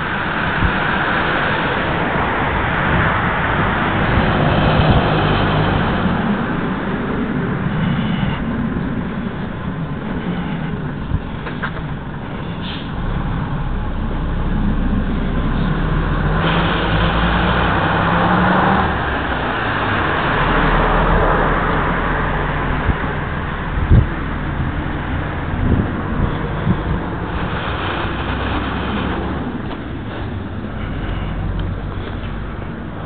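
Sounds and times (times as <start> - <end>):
cars passing on street: 0.0 - 33.0
louder vehicle passing: 0.0 - 33.0.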